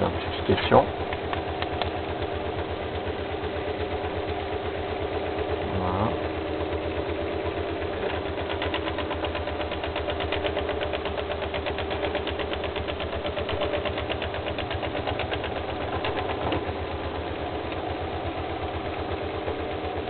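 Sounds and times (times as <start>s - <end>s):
stepper motor pulsing buzz: 0.0s - 19.3s.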